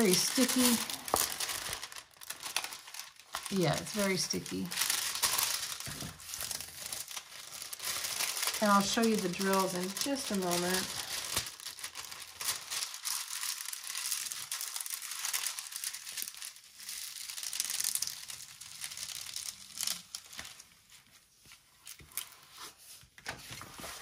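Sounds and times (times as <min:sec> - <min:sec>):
plastic film crinkling: 0:00.0 - 0:24.0.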